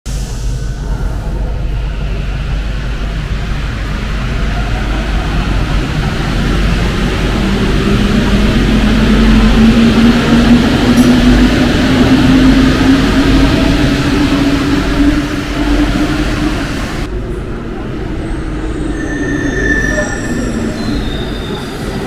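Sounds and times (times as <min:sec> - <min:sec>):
metro train rumble and hiss: 0:00.1 - 0:22.0.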